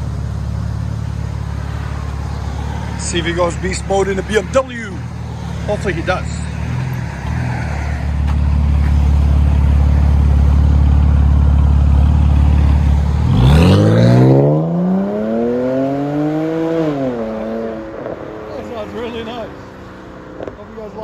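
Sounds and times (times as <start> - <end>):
car exhaust drone and acceleration: 0.0 - 21.0.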